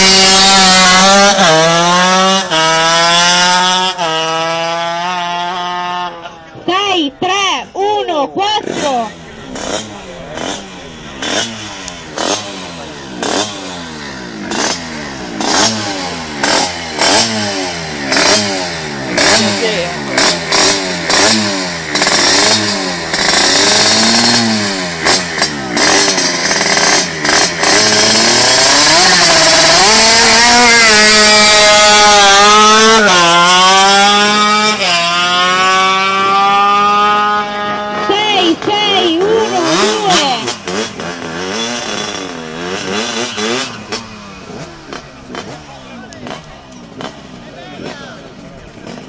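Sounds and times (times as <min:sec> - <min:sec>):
scooter engine revving: 0:00.0 - 0:49.0.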